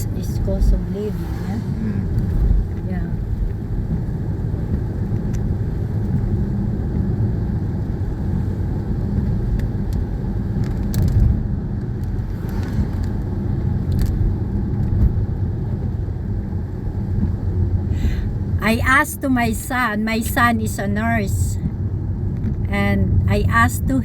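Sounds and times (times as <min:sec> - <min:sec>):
road and engine noise in car: 0:00.0 - 0:24.0.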